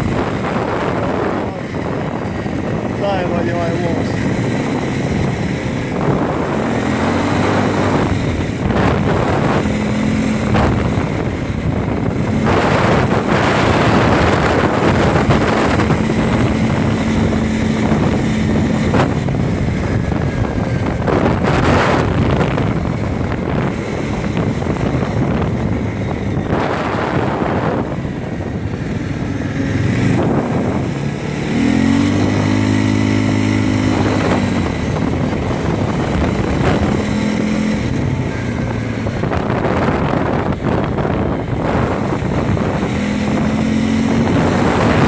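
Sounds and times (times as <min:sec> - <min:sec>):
quad bike engine running: 0:00.0 - 0:45.0
wind buffeting microphone: 0:00.0 - 0:45.0.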